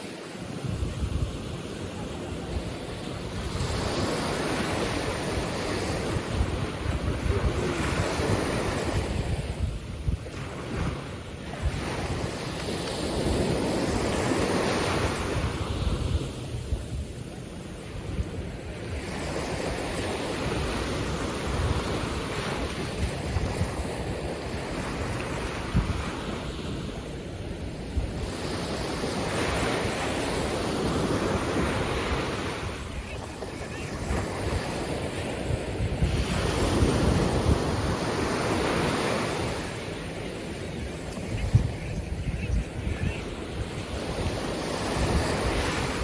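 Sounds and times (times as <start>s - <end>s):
ocean surf washing on beach: 0.0s - 46.0s
wind rumbling on microphone: 0.0s - 46.0s.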